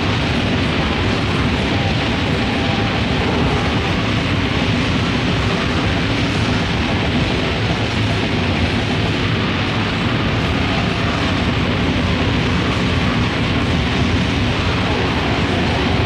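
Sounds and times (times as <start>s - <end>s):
distorted grindcore noise: 0.0s - 16.0s.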